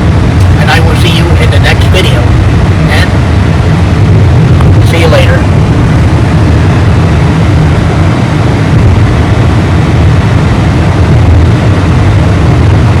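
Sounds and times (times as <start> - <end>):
car driving at highway speed: 0.0 - 13.0
road and wind noise: 0.0 - 13.0.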